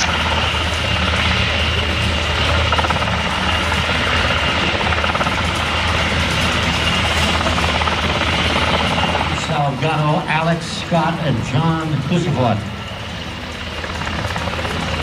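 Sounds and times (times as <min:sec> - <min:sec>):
helicopter rotor beat: 0:00.0 - 0:15.0
high engine whine: 0:00.0 - 0:15.0.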